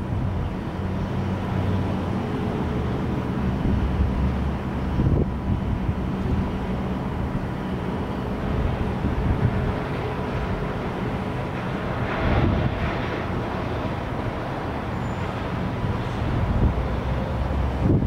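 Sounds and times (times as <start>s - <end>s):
jet engines during takeoff: 0.0s - 18.0s.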